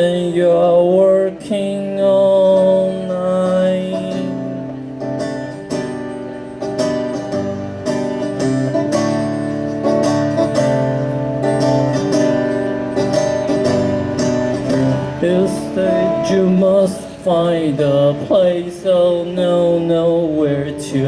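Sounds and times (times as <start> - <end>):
guitar strummed chords: 0.0 - 21.0.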